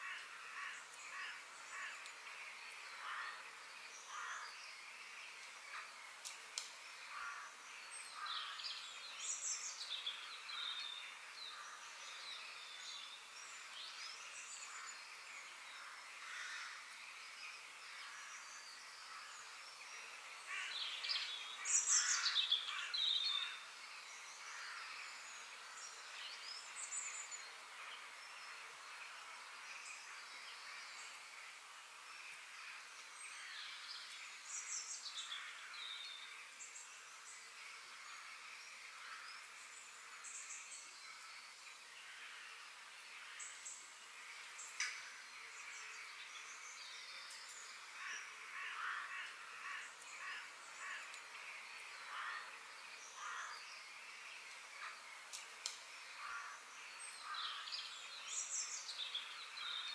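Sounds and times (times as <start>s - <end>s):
forest birds singing: 0.0s - 59.9s.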